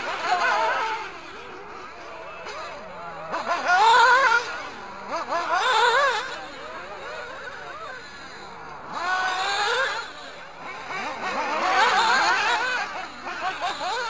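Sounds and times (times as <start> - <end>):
rc buggy engines whining: 0.0 - 14.0.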